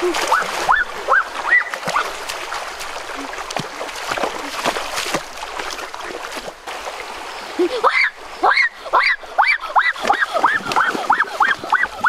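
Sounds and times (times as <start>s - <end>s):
stream current running: 0.0s - 12.0s
water splashing and sloshing: 0.0s - 12.0s.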